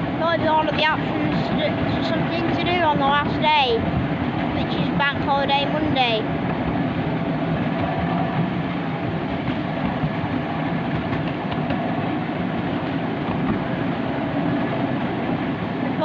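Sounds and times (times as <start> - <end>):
miniature train wheels rumbling on rail: 0.0 - 16.0.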